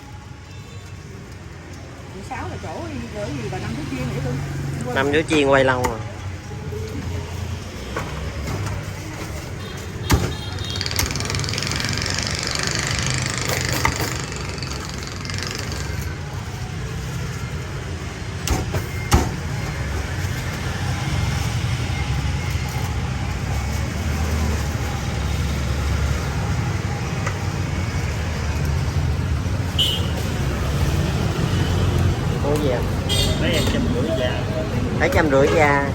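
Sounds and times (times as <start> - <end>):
street traffic rumble: 0.0 - 35.9.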